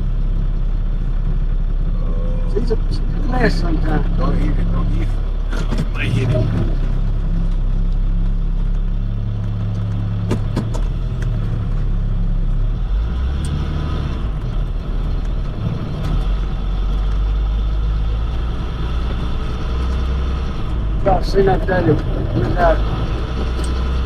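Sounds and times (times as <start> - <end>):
road noise: 0.0 - 24.0
truck engine: 0.0 - 24.0.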